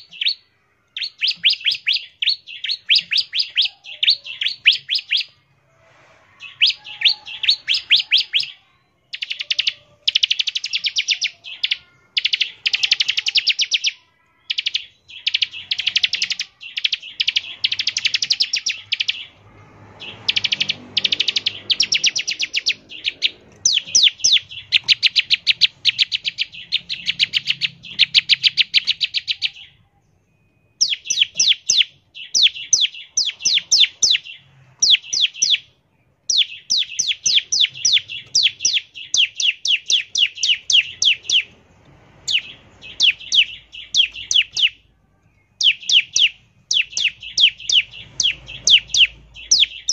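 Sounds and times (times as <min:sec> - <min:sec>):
bird singing rapid rattling song: 0:00.0 - 0:05.4, 0:06.4 - 0:29.8, 0:30.8 - 0:44.8, 0:45.5 - 0:49.9.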